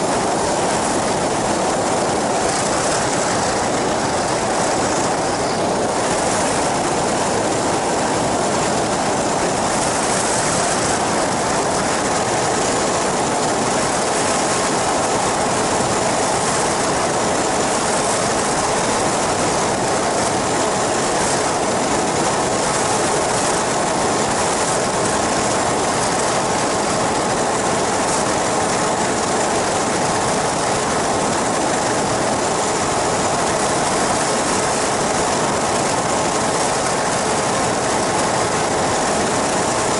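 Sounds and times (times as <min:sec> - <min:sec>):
aircraft engine and propeller drone: 0:00.0 - 0:39.9
rushing wind: 0:00.0 - 0:39.9.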